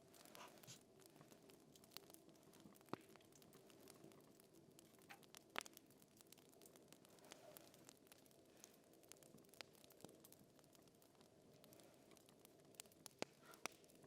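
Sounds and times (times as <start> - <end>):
fire crackling: 0.0 - 14.0.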